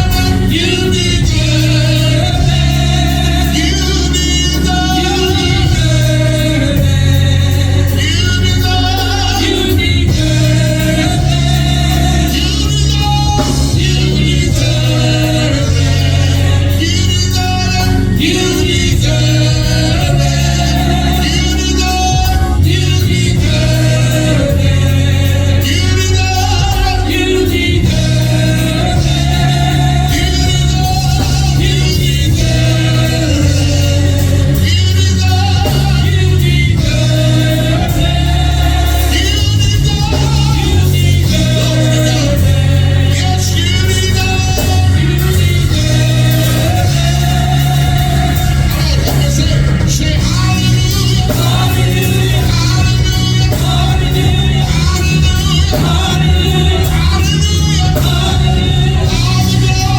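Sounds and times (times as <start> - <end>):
band playing: 0.0 - 59.9
steady bass line: 0.0 - 59.9
voices singing gospel: 0.0 - 59.9.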